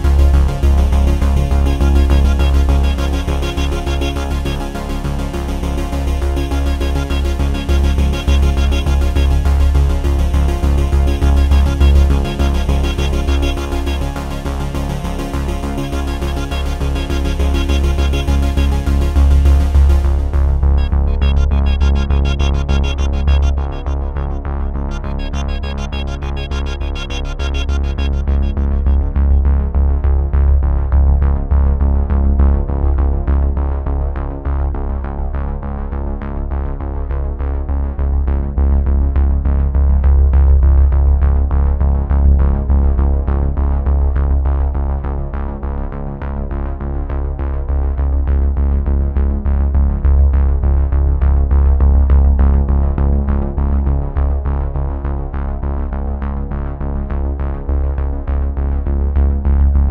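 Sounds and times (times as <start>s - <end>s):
background music with heavy bass: 0.0s - 59.9s.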